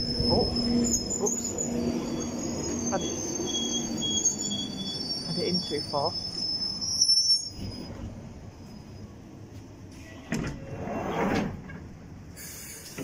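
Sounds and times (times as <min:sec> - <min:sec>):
train sliding doors opening: 0:00.0 - 0:05.0, 0:07.3 - 0:13.0.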